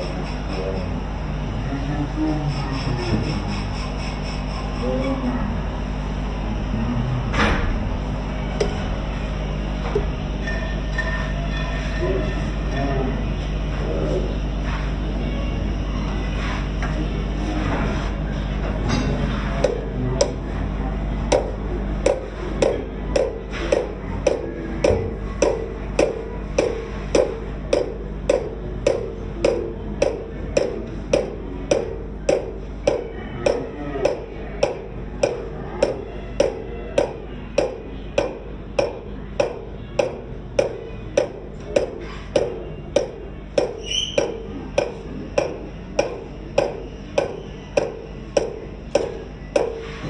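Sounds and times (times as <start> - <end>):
lathe running with low hum: 0.0 - 50.0.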